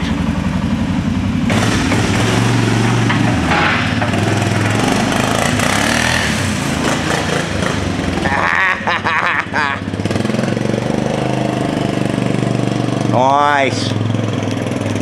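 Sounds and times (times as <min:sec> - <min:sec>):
quad atv engine running: 0:00.0 - 0:15.0.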